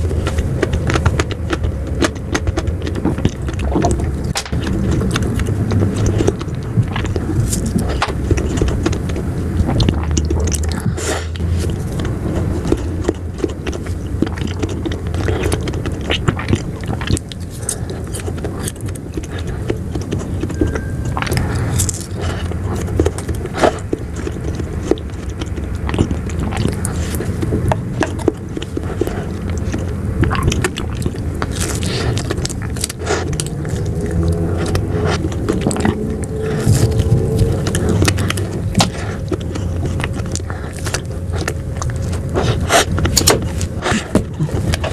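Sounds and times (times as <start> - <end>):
biting and chewing ice cream: 0.0 - 44.9
low rumble: 0.0 - 44.9
mouth clicks: 0.0 - 44.9.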